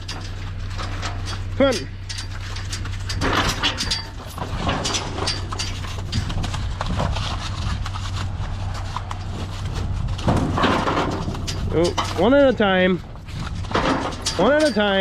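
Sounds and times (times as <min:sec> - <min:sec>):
hooves knocking on trailer floor: 0:00.0 - 0:15.0
idling engine hum: 0:00.0 - 0:15.0.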